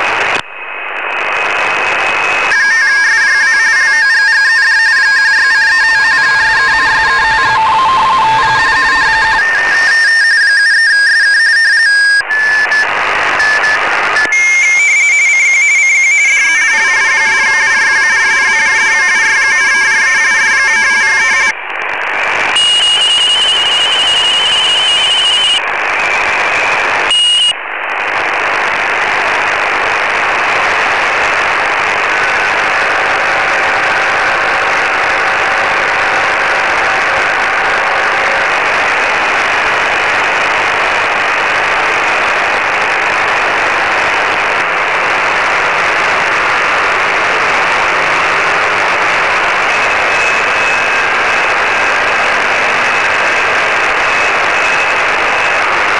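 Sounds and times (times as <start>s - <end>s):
radio band hiss: 0.0s - 55.9s
steady radio tone: 0.0s - 55.9s.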